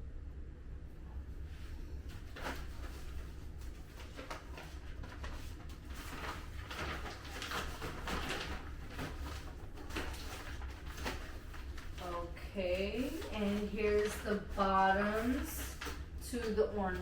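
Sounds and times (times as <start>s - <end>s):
steady low hum: 0.0s - 17.0s
packaging rustling and crinkling: 2.1s - 17.0s.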